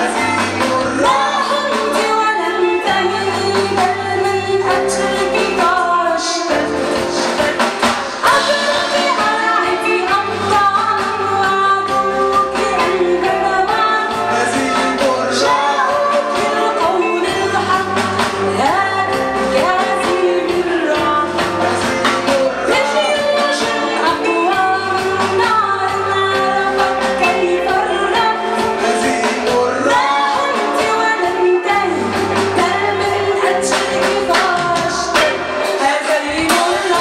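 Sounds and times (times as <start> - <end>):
bass guitar: 0.0 - 37.0
drums: 0.0 - 37.0
electric guitar: 0.0 - 37.0
woman singing: 0.0 - 37.0.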